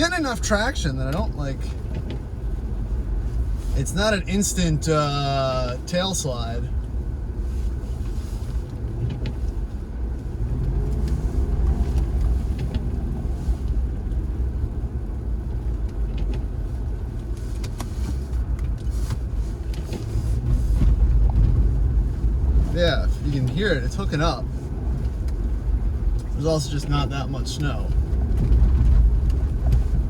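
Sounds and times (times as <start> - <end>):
car engine low rumble: 0.0 - 30.0
tyre and road noise: 0.0 - 30.0.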